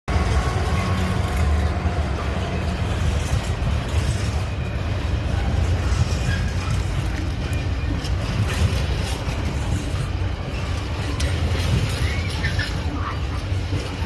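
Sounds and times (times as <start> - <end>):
freight train rumbling past: 0.1 - 14.0.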